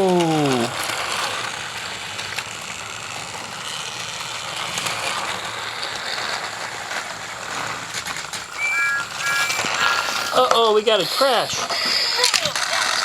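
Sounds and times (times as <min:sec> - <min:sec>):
toy train motors whirring: 0:00.0 - 0:08.6, 0:09.3 - 0:13.0.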